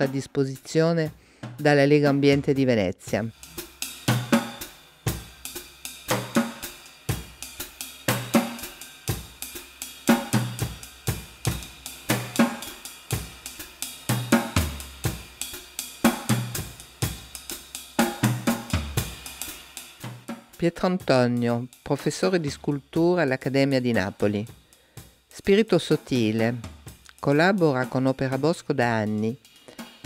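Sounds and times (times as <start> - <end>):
drum kit playing a steady beat: 0.0 - 30.0.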